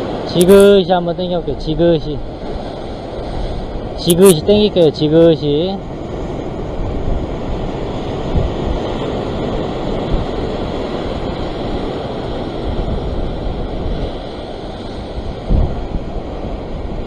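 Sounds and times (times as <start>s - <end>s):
ocean surf breaking on rocks: 0.0s - 17.0s
wind buffeting microphone: 0.0s - 17.0s.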